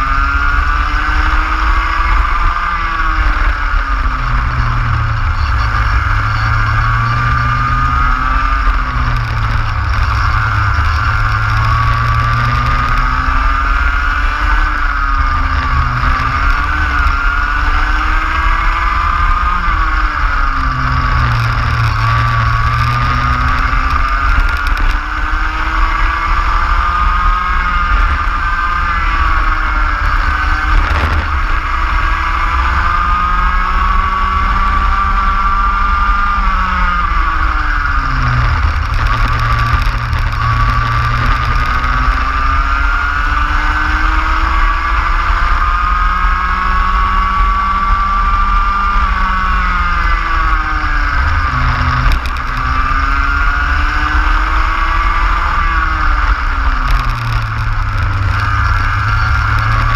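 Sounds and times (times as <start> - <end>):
racing kart engine: 0.0 - 59.9
steady low rumble: 1.6 - 46.0, 47.5 - 59.9.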